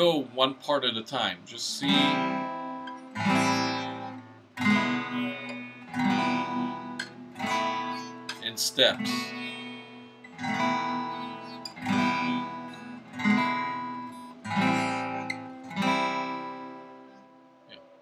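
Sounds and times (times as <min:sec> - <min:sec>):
acoustic guitar strums: 0:00.0 - 0:18.0.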